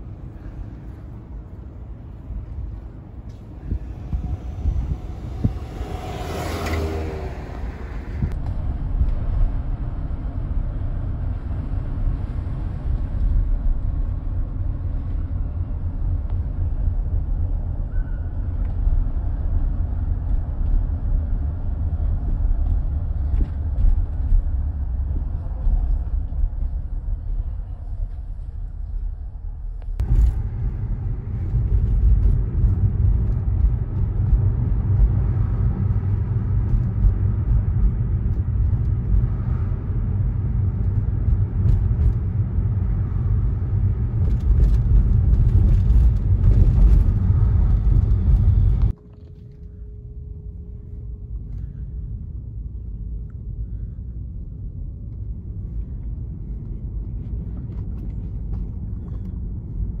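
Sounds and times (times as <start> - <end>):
car road and engine rumble: 0.0 - 60.0.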